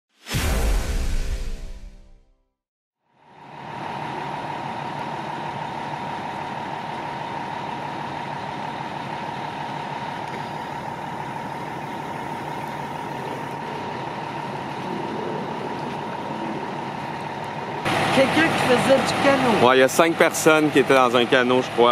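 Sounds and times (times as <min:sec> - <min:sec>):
engine hum with high whine: 0:03.1 - 0:21.9.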